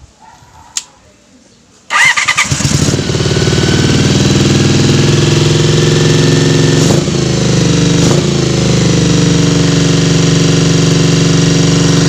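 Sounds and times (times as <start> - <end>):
motorcycle engine idling: 1.9 - 12.0.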